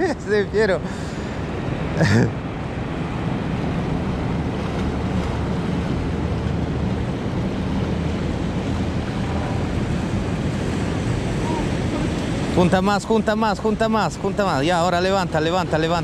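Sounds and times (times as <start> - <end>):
surf washing against rocks: 0.0 - 16.0
wind buffeting microphone: 1.3 - 16.0.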